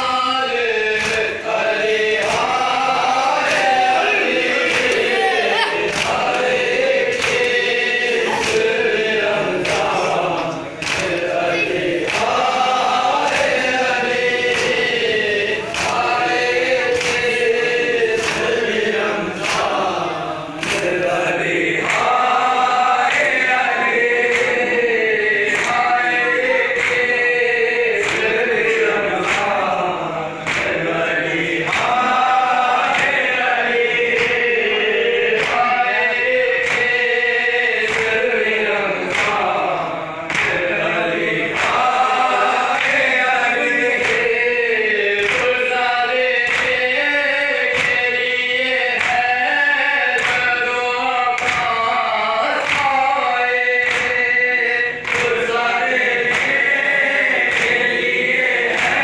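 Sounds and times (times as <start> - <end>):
men chanting a lament: 0.0 - 59.0
hand slaps on chests: 0.8 - 11.3, 11.9 - 20.0, 20.6 - 27.4, 28.0 - 34.6, 35.2 - 39.6, 40.2 - 46.9, 47.6 - 48.1, 48.8 - 50.6, 51.3 - 59.0.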